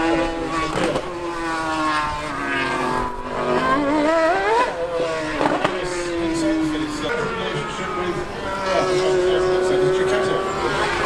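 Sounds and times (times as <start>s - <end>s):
racing engines revving: 0.0s - 11.0s.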